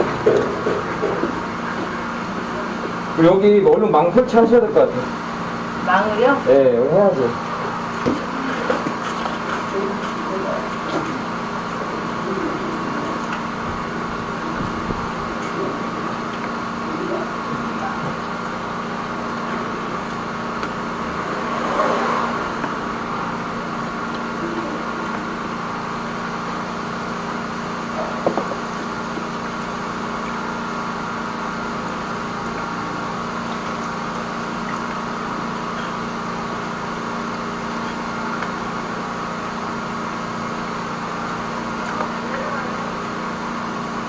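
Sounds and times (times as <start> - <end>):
engine and pump running: 0.0 - 44.0.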